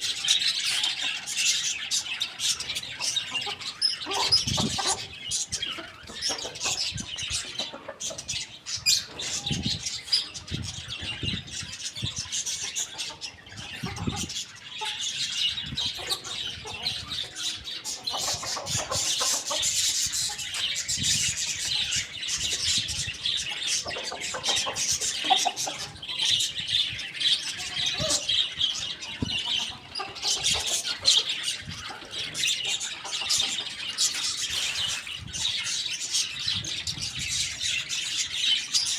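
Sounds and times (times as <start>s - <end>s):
poultry chirping and clucking: 0.0s - 38.9s.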